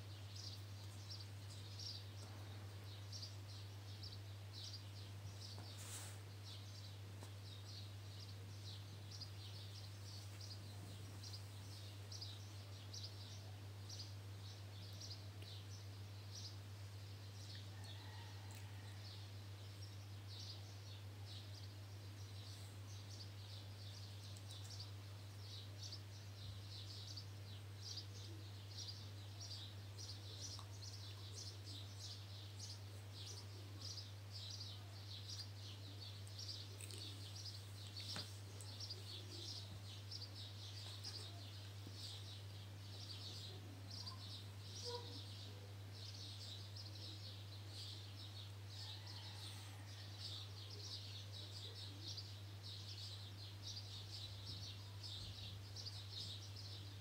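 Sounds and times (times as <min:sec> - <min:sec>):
faint birds chirping: 0:00.0 - 0:57.0
low electrical hum: 0:00.0 - 0:57.0.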